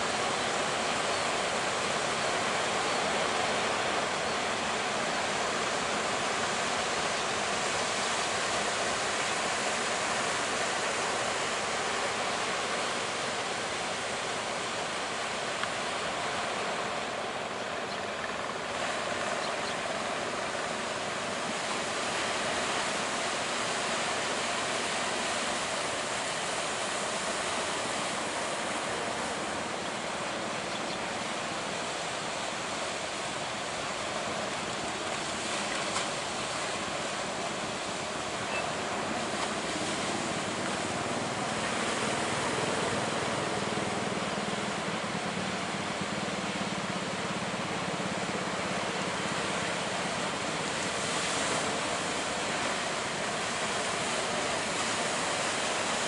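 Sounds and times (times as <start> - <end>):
surf waves breaking: 0.0 - 56.0.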